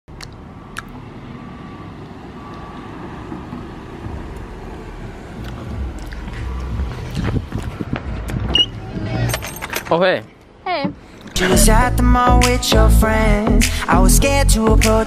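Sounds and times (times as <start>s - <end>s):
car engine approaching: 0.1s - 15.0s.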